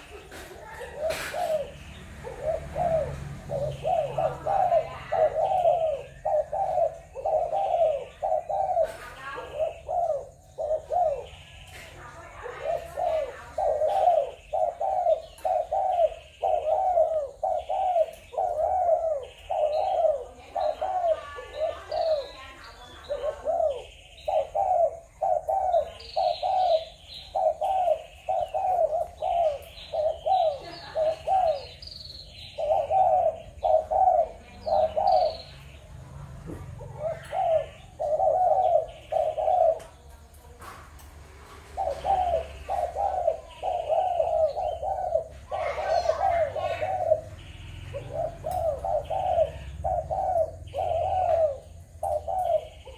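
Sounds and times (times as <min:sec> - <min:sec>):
doves cooing: 0:00.0 - 0:52.9
high bird chirping: 0:00.0 - 0:52.9.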